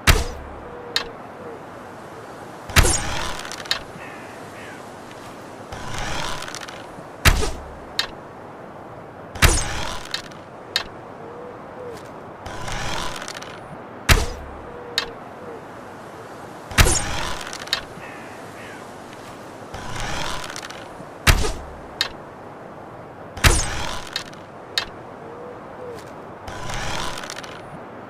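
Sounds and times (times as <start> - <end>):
bow draw rustling: 0.0 - 11.1, 11.8 - 22.4, 23.4 - 27.9.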